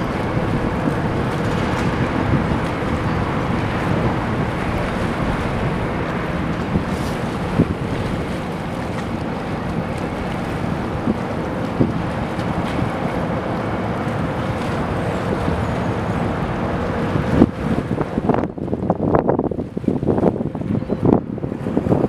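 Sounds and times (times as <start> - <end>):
boat engine hum: 0.0 - 22.0
wind buffeting microphone: 0.0 - 22.0.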